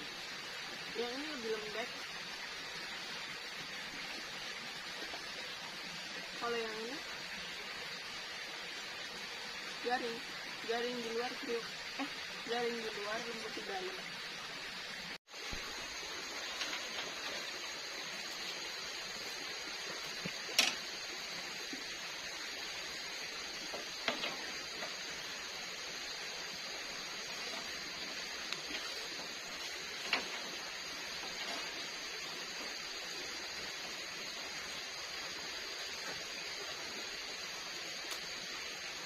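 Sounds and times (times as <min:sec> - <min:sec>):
steady forest hiss: 0:00.0 - 0:39.0.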